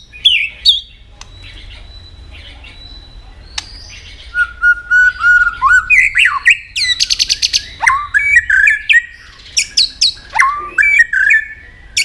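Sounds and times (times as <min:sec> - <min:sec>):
bird singing whistles: 0:00.0 - 0:12.0.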